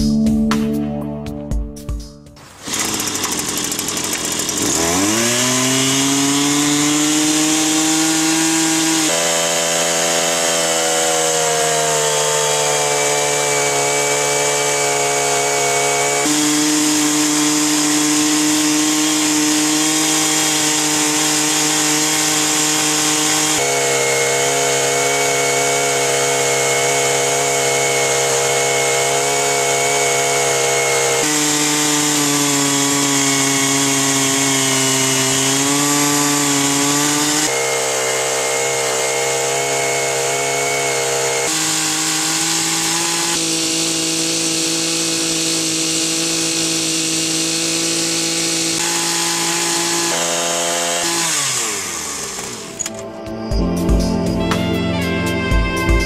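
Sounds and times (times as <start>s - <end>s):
motor running at high speed: 2.4s - 53.0s.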